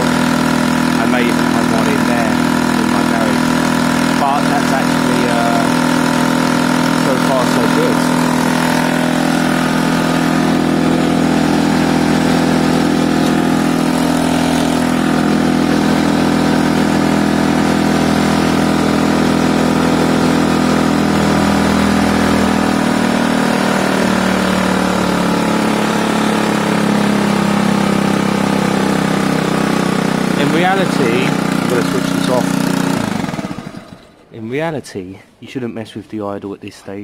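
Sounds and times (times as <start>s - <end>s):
scooter engine idling fast: 0.0s - 34.2s.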